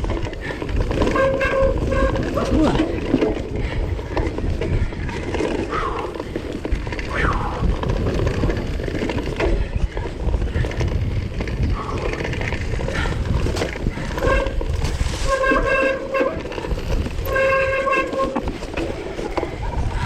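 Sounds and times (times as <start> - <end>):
bike rolling over rough trail: 0.0 - 20.0.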